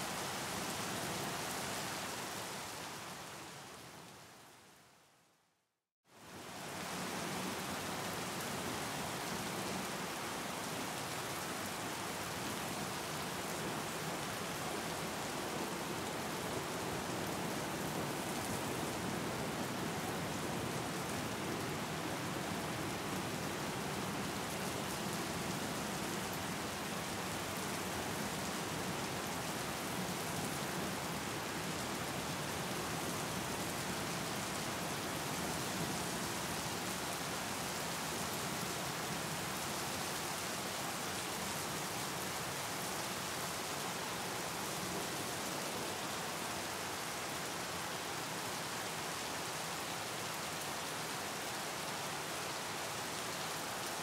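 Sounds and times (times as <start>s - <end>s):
rain falling on water: 0.0s - 5.0s, 6.1s - 54.0s.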